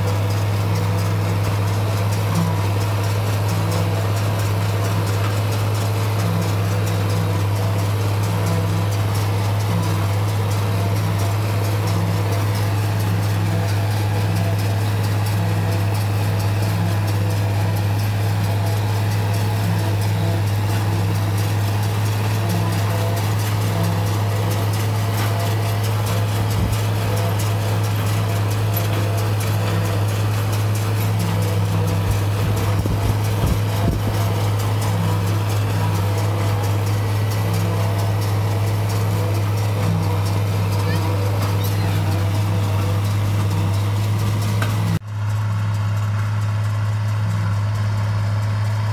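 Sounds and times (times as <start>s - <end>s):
tractor diesel engine droning: 0.0s - 48.9s.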